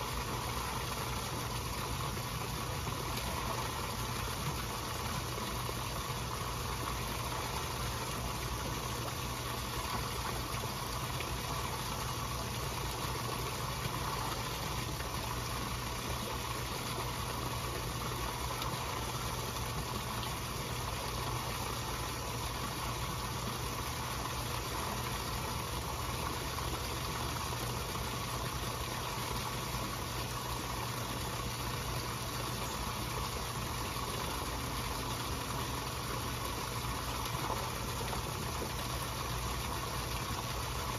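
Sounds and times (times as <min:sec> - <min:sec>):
pond pump humming: 0:00.0 - 0:40.9.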